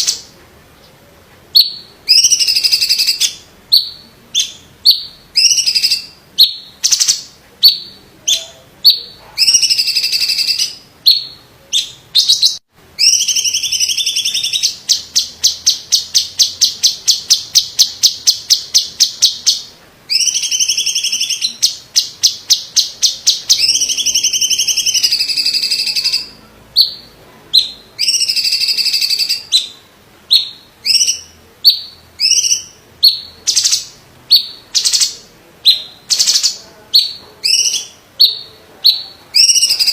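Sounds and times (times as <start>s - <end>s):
bird singing sharp high notes: 1.6s - 39.9s.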